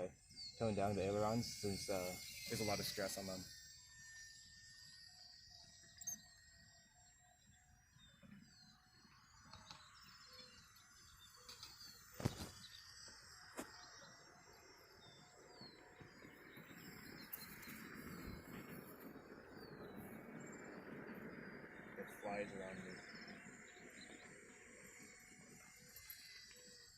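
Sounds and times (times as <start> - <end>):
faint bird chirps: 0.0 - 26.9.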